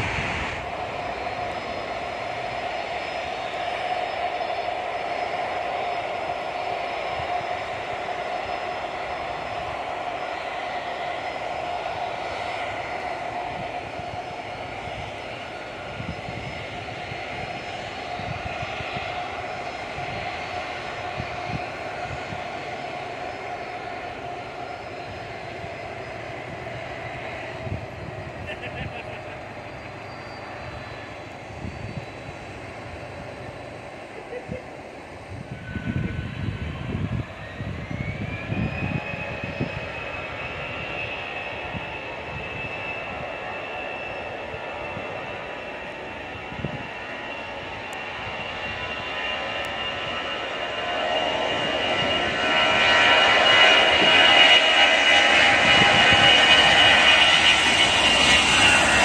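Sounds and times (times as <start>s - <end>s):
jet engines running at low power: 0.0s - 59.0s.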